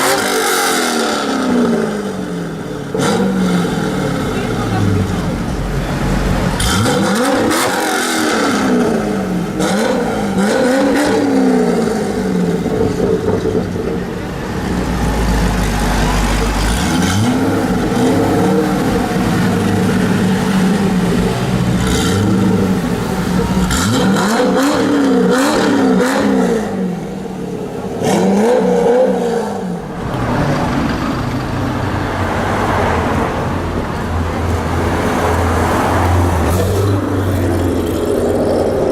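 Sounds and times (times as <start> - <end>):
car engine revving: 0.0 - 38.9
car engine idling: 1.3 - 38.9.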